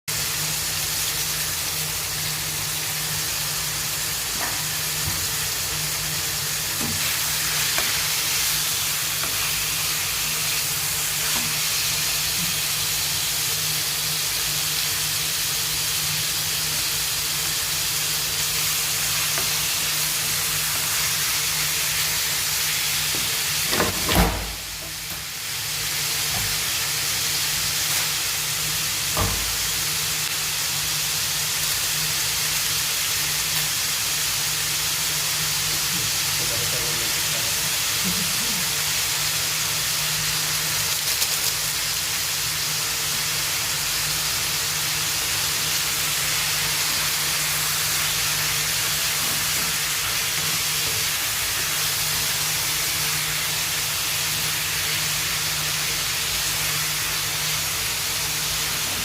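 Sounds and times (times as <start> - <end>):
chicken sizzling in a pan: 0.1 - 59.0.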